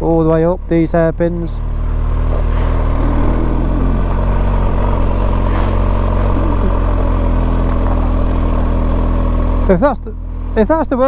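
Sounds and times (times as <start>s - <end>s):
motorcycle engine pulling uphill: 0.2s - 11.0s.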